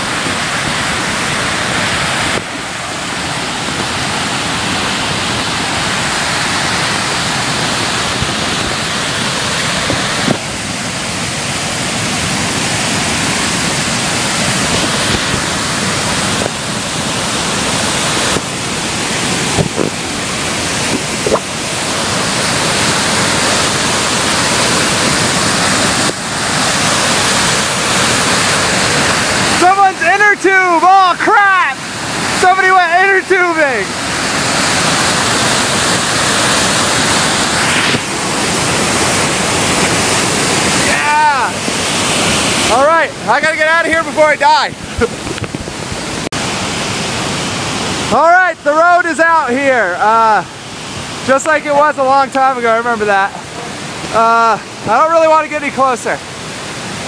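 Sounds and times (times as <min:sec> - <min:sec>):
waterfall and whitewater rushing: 0:00.0 - 0:57.0.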